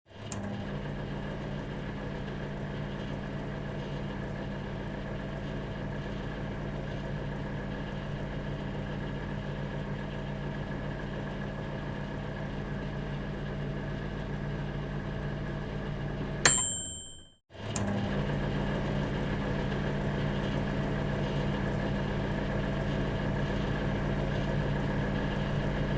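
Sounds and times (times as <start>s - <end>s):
microwave oven humming: 0.2s - 25.9s.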